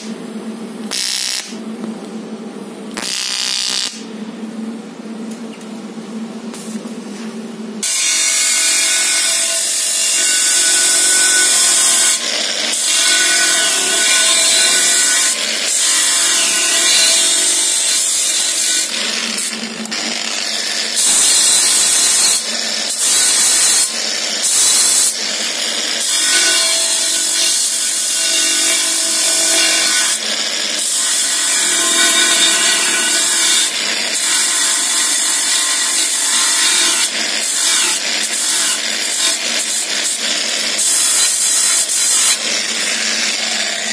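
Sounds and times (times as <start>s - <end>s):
angle grinder grinding metal: 7.8s - 43.9s.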